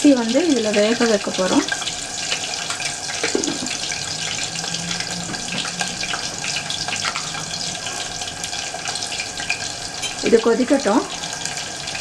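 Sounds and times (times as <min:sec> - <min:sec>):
water bubbling in a pot: 0:00.0 - 0:12.0.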